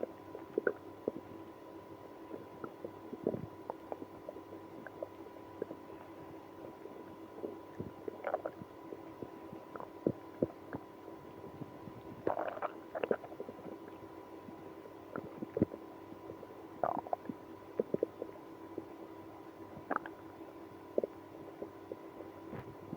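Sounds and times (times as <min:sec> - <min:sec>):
stomach gurgling: 0:00.0 - 0:22.9.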